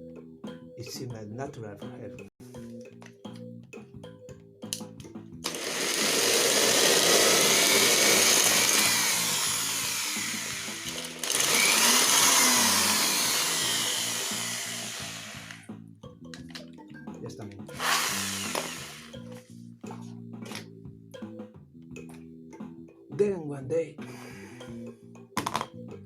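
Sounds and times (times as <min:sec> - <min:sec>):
bass-line music: 0:00.0 - 0:26.0.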